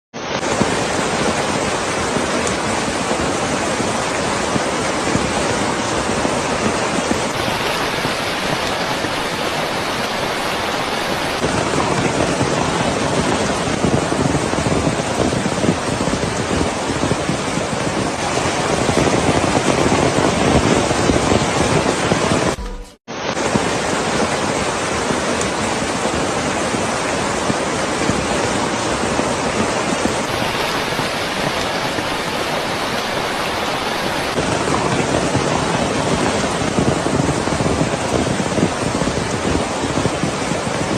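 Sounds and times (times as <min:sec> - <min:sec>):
floodwater roaring: 0:00.2 - 0:40.9.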